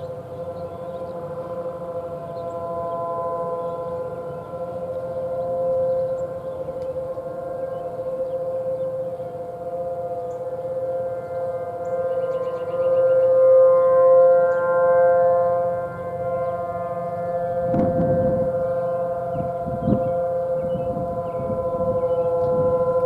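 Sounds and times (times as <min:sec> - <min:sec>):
distant warning sirens: 0:00.0 - 0:23.0.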